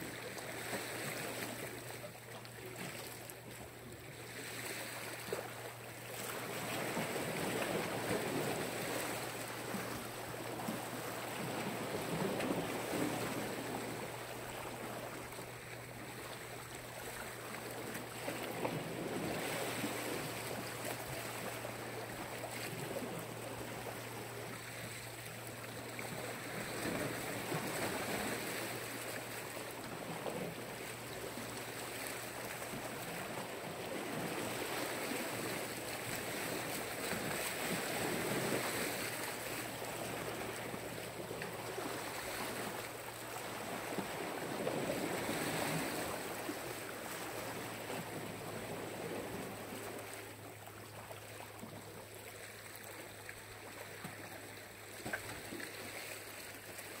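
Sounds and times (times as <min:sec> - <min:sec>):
waves washing ashore: 0:00.0 - 0:57.0.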